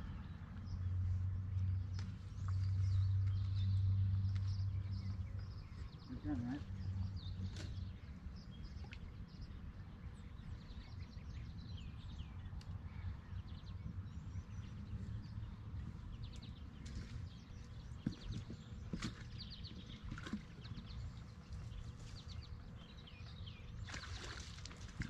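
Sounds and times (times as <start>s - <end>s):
steady low rumble: 0.0s - 23.7s
small birds chirping: 0.0s - 25.0s.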